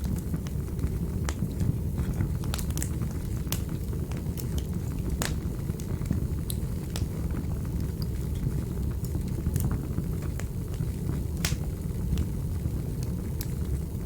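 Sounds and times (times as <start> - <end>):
fire crackling in a fireplace: 0.0 - 14.0.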